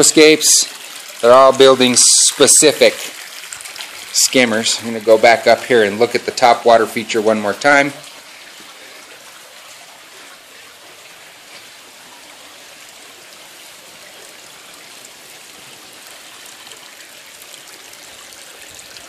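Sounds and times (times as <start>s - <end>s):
waterfall splashing and trickling: 0.0s - 19.0s.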